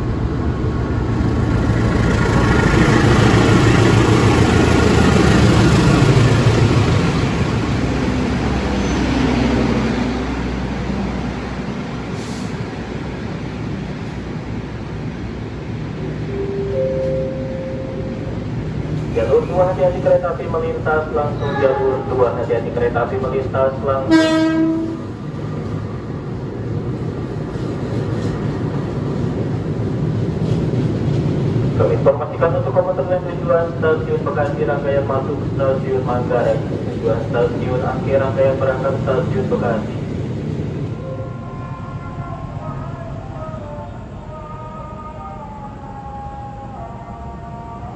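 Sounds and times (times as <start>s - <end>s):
train rumbling past: 0.0s - 47.9s.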